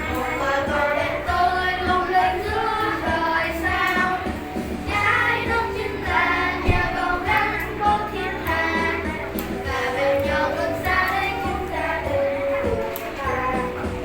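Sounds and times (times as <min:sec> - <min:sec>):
children singing: 0:00.0 - 0:14.0
instrumental accompaniment: 0:00.0 - 0:14.0.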